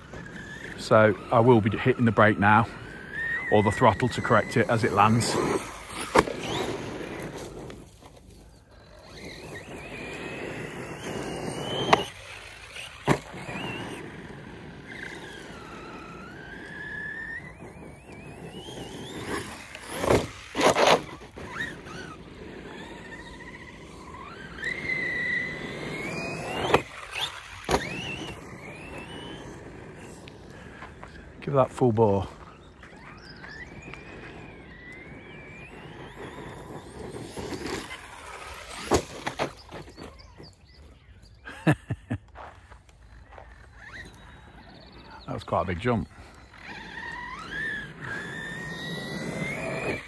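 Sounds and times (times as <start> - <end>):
electric motor whining: 0.0 - 41.5, 42.6 - 50.0.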